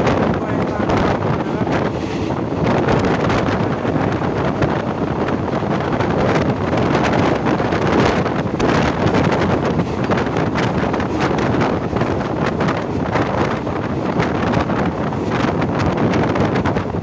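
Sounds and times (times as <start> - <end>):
passenger train running: 0.0 - 17.0
wind buffeting microphone: 0.0 - 17.0.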